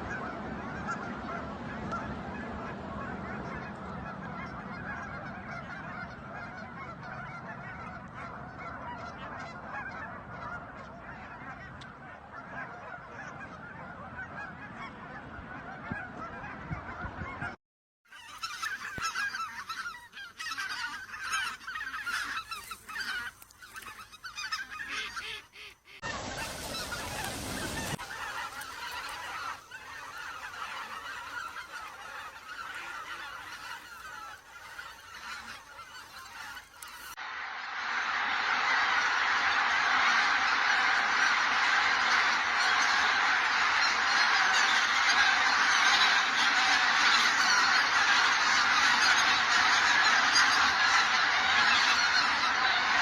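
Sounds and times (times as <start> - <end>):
geese honking: 0.0 - 53.0.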